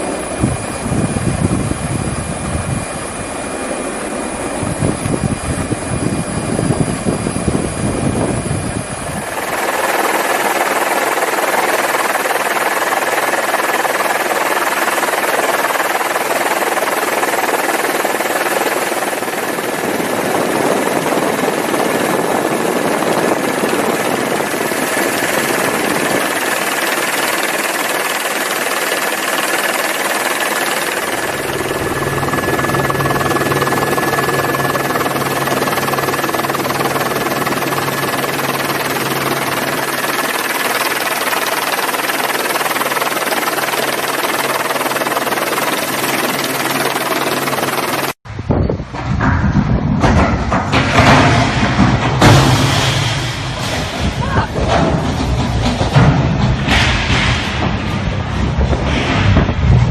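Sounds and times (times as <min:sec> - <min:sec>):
thin steady whine: 0:00.0 - 0:48.9
wind and sea rushing: 0:00.0 - 0:51.8.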